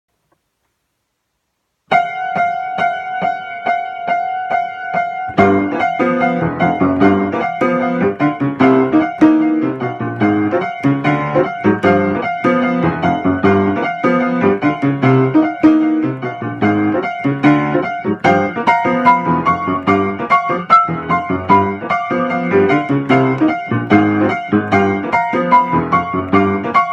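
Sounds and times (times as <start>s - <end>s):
piano playing funky groove: 1.9s - 26.9s.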